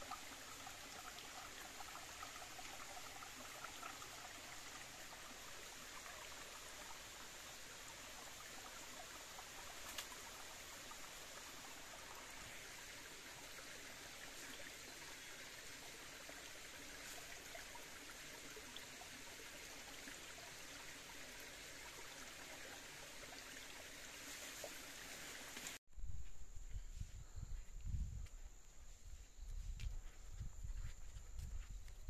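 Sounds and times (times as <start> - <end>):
stream flowing: 0.0 - 25.8.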